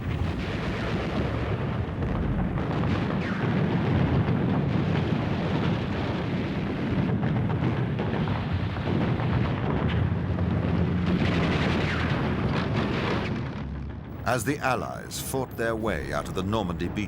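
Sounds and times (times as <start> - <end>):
dense gunfire: 0.0 - 14.9
continuous low rumble: 0.0 - 17.0
explosions: 0.0 - 17.0.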